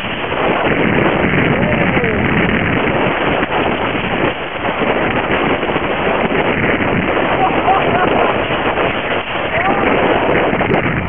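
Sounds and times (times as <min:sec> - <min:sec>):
water splashing along hull: 0:00.0 - 0:11.0
wind rushing over microphone: 0:00.0 - 0:11.0.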